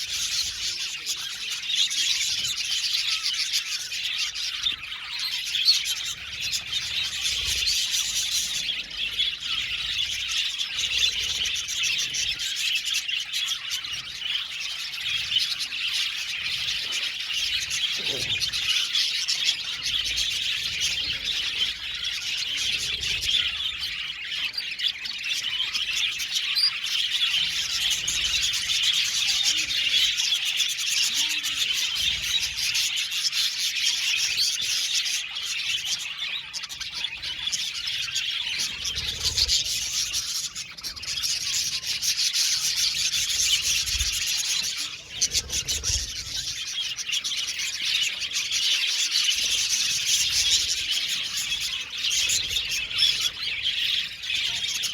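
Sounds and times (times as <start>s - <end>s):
flock of budgerigars chirping: 0.0s - 54.9s.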